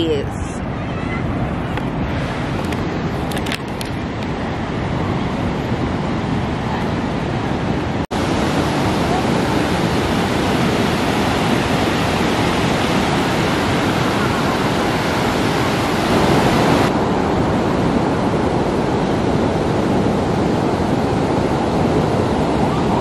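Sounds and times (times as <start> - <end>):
sea surf: 0.0 - 23.0
wind on microphone: 0.0 - 23.0.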